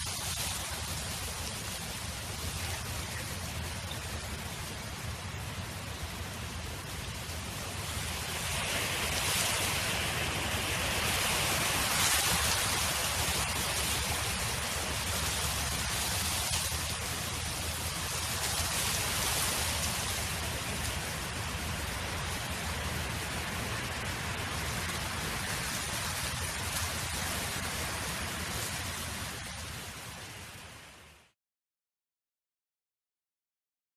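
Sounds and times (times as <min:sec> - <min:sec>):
wind blowing: 0:00.0 - 0:31.1.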